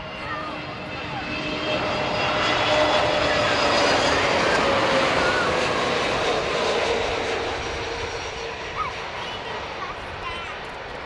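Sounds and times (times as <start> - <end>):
jet airliner passing overhead: 0.0 - 11.0
jet engine whine: 0.0 - 11.0.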